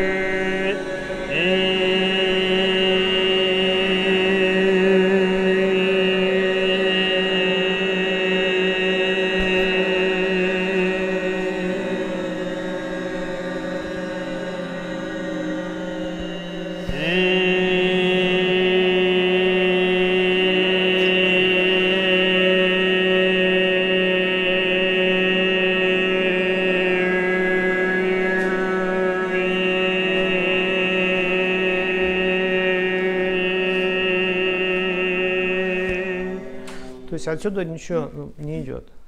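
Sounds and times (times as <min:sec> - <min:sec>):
man throat singing: 0:00.0 - 0:37.6.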